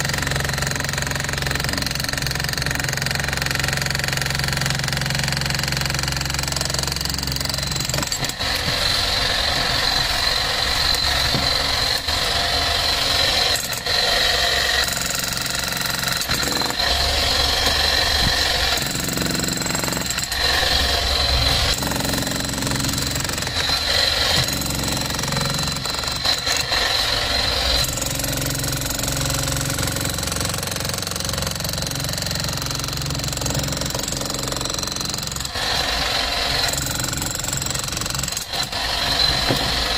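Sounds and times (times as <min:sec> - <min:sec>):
demolition hammer chiselling concrete: 0:00.0 - 0:39.9.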